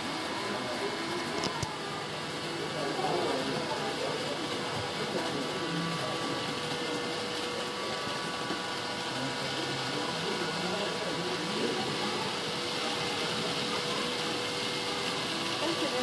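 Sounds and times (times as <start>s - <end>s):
faint voices: 0.0s - 16.0s
model trains whirring: 0.0s - 16.0s.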